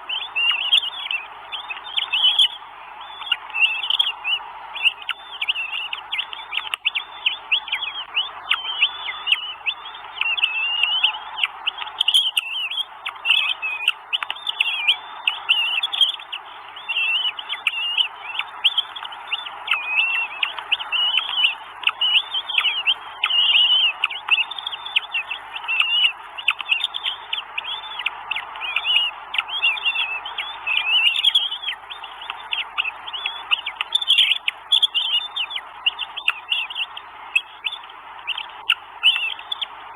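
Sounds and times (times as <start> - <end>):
nestlings chirping: 0.0 - 39.8.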